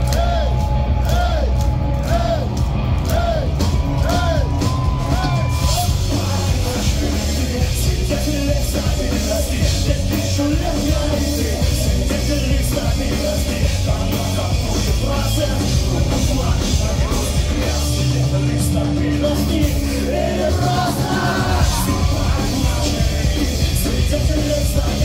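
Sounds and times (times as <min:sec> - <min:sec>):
pop-punk band playing loud: 0:00.0 - 0:25.0.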